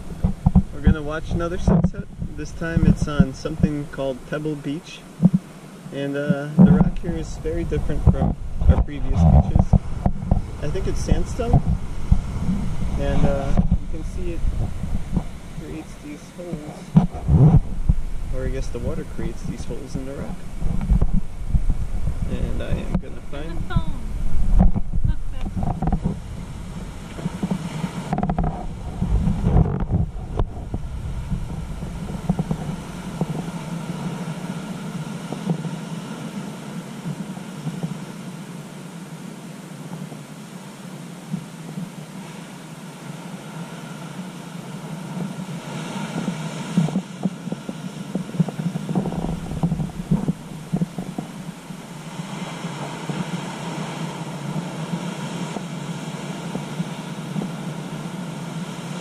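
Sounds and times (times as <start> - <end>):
wind buffeting microphone: 0.0 - 42.2, 42.8 - 59.0
ocean surf breaking on rocks: 0.0 - 59.0
steady low hum: 0.0 - 59.0.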